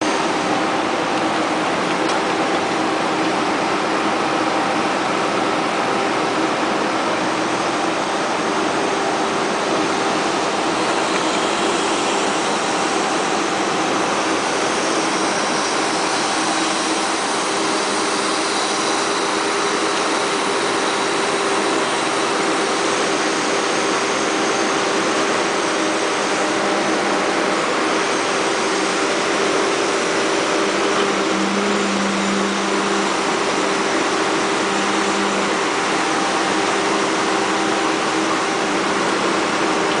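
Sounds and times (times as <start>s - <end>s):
excavator engine running: 0.0s - 40.0s.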